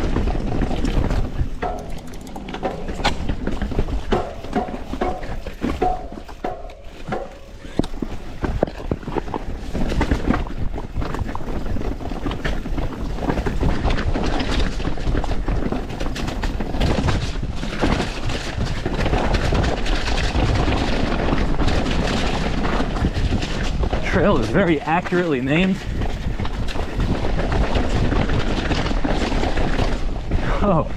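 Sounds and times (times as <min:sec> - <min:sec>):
bike tyres and frame clattering: 0:00.0 - 0:30.9
wind noise on microphone: 0:00.0 - 0:30.9.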